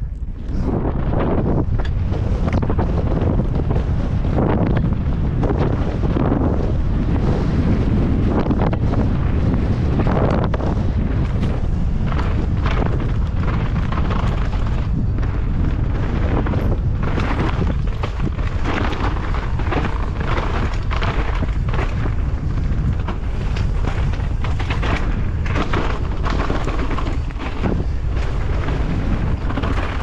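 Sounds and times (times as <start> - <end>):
bike knocks and rattles: 0.0 - 30.0
wind buffeting microphone: 0.0 - 30.0.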